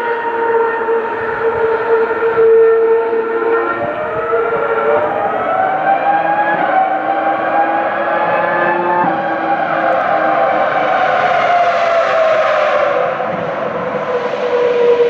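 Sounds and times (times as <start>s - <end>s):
distant racing car engines revving: 0.0s - 15.0s.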